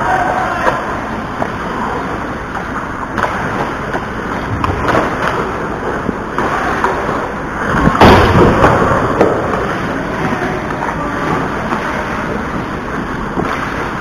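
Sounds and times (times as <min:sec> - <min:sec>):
skate blades scraping ice: 0:00.0 - 0:08.0, 0:08.6 - 0:14.0
hockey sticks and puck clicking: 0:00.0 - 0:14.0.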